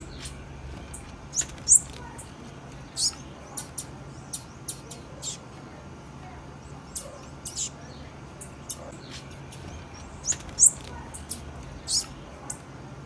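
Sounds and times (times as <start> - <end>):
bird high thin chirps: 0.0 - 5.5, 6.9 - 12.6.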